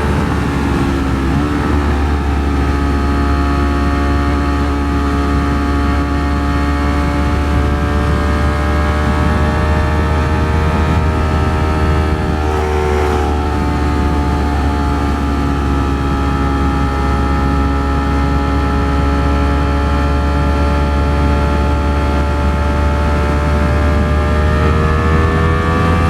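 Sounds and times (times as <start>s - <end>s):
heavy wind: 0.0s - 26.0s
motorcycle engine cruising: 0.0s - 26.0s
road rumble: 0.0s - 26.0s.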